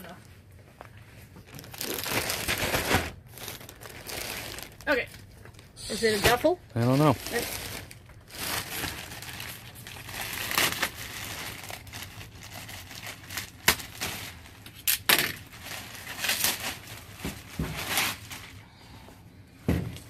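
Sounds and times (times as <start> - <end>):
plastic bag crinkling: 1.4 - 18.6
sharp plastic crackles: 1.4 - 18.6.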